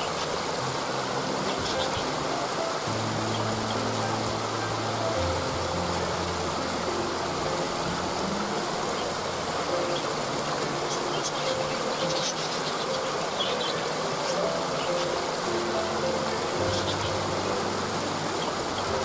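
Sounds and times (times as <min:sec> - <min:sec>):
small birds chirping: 0:00.0 - 0:19.0
soft held musical notes: 0:00.0 - 0:19.0
waterfall rushing: 0:00.0 - 0:19.0.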